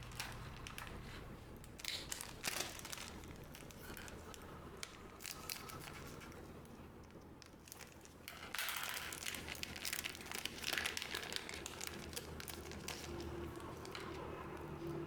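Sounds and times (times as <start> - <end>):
plastic wrapper crinkling: 0.0 - 15.0.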